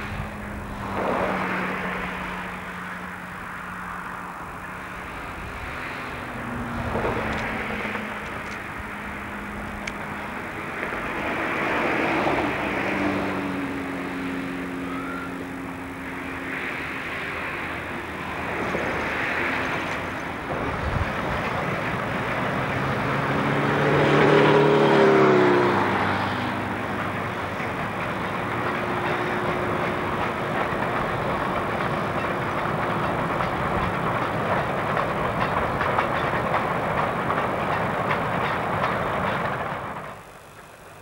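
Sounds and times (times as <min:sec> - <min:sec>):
steam locomotive passing: 0:00.0 - 0:41.0.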